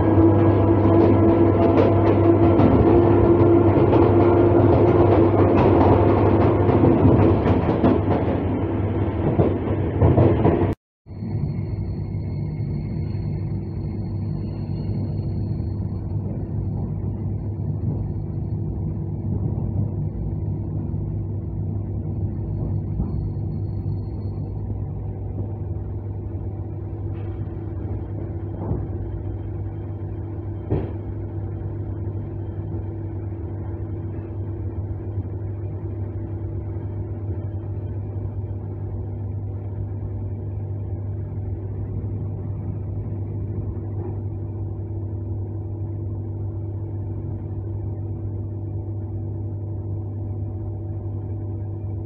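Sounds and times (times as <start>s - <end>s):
train interior hum and rumble: 0.0s - 52.0s.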